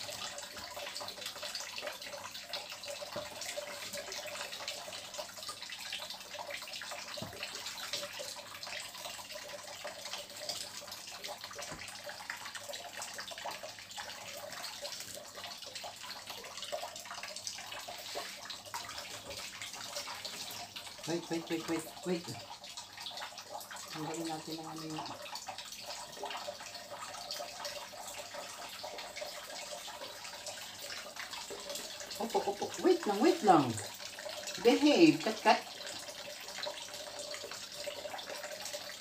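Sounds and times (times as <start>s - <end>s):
faucet water splashing into sink: 0.0s - 39.0s.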